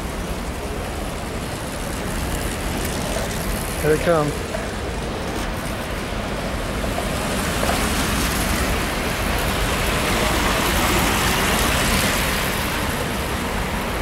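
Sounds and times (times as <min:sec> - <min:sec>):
bike tyres whirring on boards: 0:00.0 - 0:14.0.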